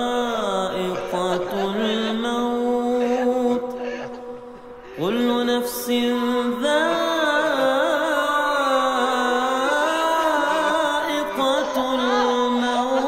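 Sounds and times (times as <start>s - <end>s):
chanted singing: 0.0s - 13.0s.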